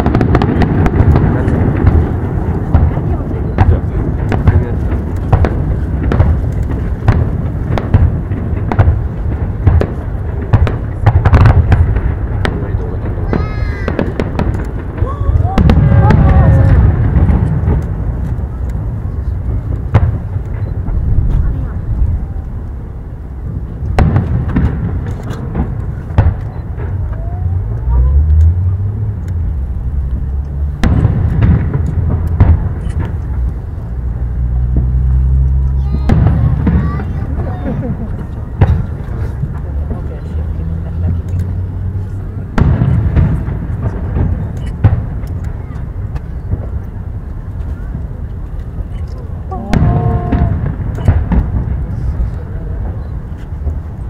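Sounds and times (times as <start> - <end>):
fireworks bangs and crackles: 0.0 - 54.0
low rumble: 0.0 - 54.0.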